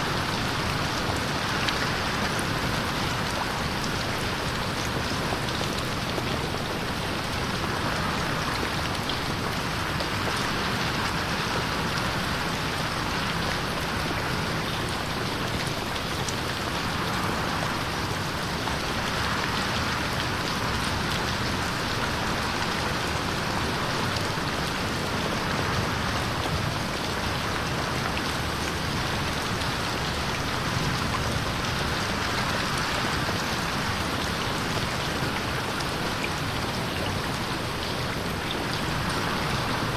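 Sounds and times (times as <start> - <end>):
rain pattering on window pane: 0.0 - 39.9.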